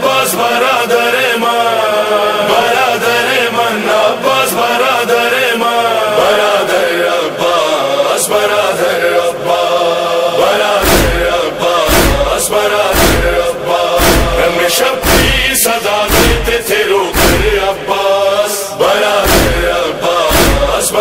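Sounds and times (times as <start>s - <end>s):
male voices chanting: 0.0s - 21.0s.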